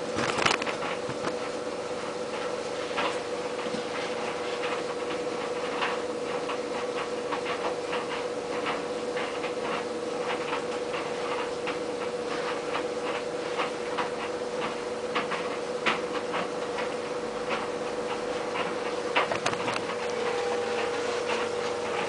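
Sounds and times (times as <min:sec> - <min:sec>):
clothes ticking in dryer drum: 0:00.0 - 0:22.0
tumble dryer motor hum: 0:00.0 - 0:22.0.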